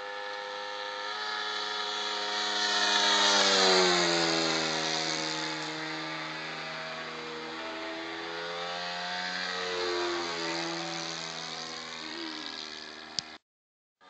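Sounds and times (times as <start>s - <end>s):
model airplane engine passing: 0.0s - 13.4s.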